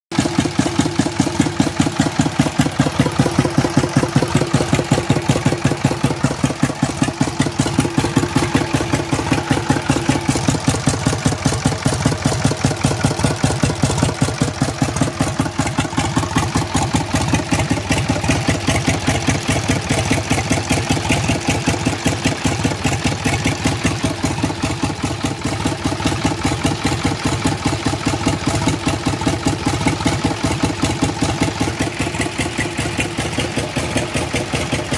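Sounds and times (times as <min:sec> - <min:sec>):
diesel tractor engine idling: 0:00.1 - 0:34.9.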